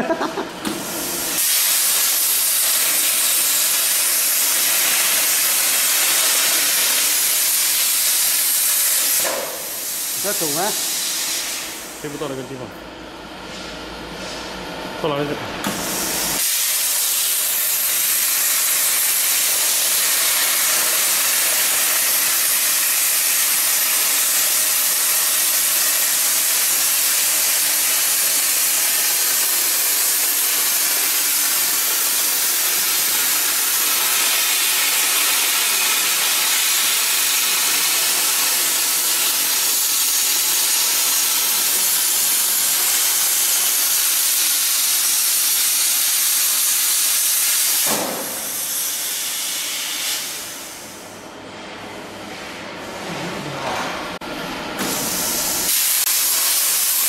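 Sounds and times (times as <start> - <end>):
plasma torch cutting metal: 0.1 - 12.3, 15.6 - 51.1, 54.8 - 57.0.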